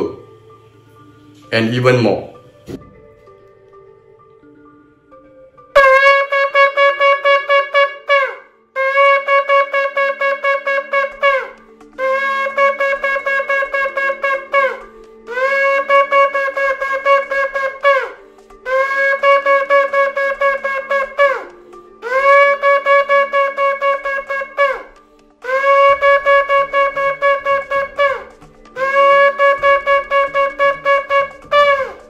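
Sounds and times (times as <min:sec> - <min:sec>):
shofar blasts: 0:05.8 - 0:32.0.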